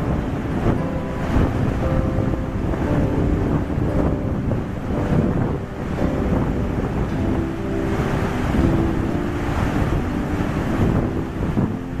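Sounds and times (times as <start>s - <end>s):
steady low rushing noise: 0.0s - 12.0s.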